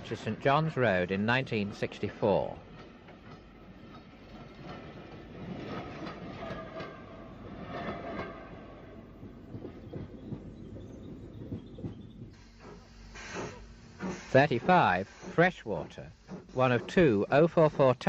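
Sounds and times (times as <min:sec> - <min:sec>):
train clattering over rails: 0:00.0 - 0:18.0.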